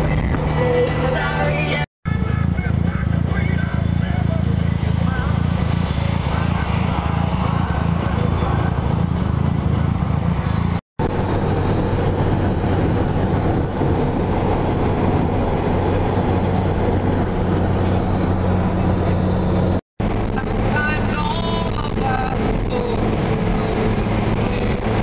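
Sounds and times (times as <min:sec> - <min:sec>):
car engine drone: 0:00.0 - 0:25.0
road and wind noise: 0:00.0 - 0:25.0.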